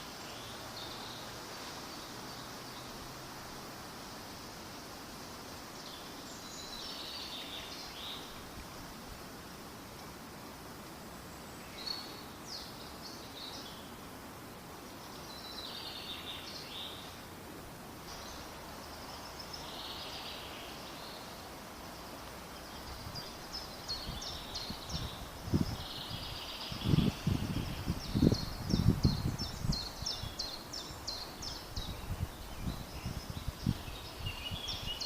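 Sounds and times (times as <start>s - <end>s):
small birds chirping: 0.0s - 14.0s, 14.7s - 17.3s, 18.0s - 35.0s
steady outdoor hiss: 0.0s - 35.0s.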